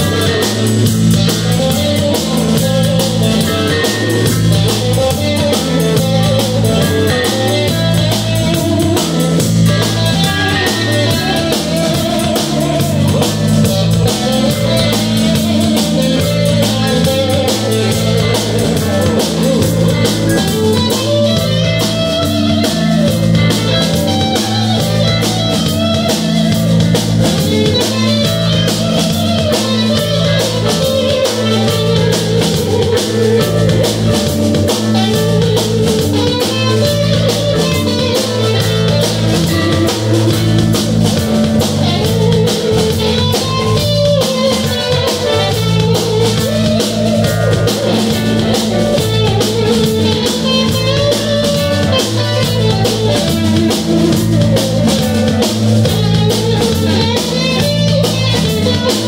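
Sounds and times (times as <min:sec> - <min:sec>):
cymbals and drums: 0:00.0 - 0:59.0
electric guitar: 0:00.0 - 0:59.0
electric keyboard: 0:00.0 - 0:59.0
repeating bass line: 0:00.0 - 0:59.0.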